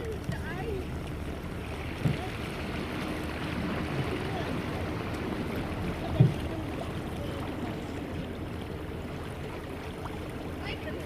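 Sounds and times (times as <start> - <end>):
water noise from boat: 0.0 - 11.0.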